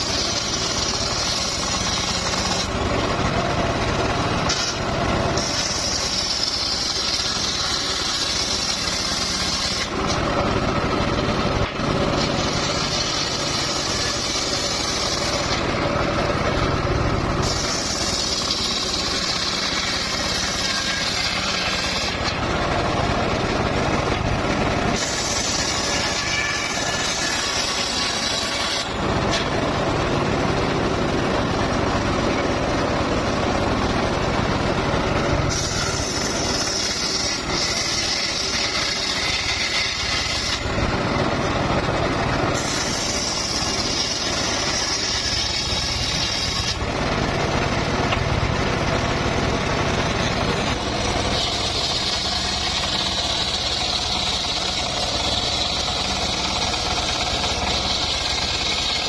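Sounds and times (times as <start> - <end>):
engine humming: 0.0 - 59.0
saw blade cutting wood: 0.0 - 59.0.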